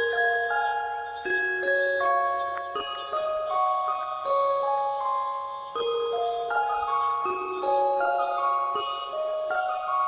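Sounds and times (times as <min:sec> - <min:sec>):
bell-like mallet melody: 0:00.0 - 0:10.0.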